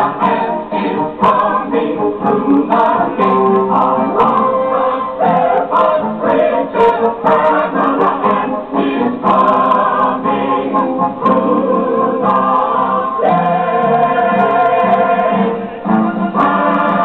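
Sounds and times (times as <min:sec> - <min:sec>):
chorus singing with instruments: 0:00.0 - 0:17.0.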